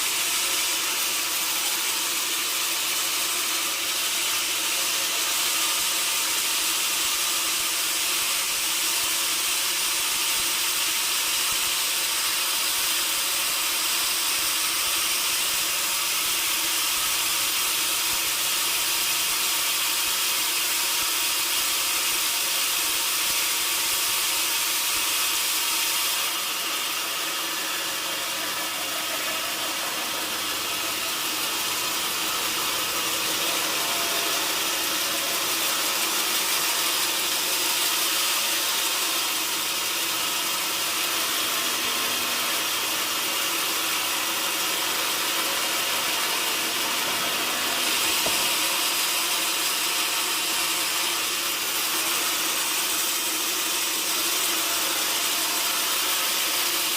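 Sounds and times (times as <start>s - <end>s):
sawmill saw cutting log: 0.0s - 56.9s.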